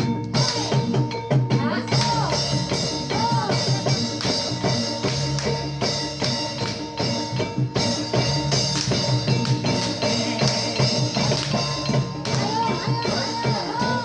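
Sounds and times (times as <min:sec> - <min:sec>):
fast drum and percussion: 0:00.0 - 0:14.0
sustained ringing tones: 0:00.0 - 0:14.0.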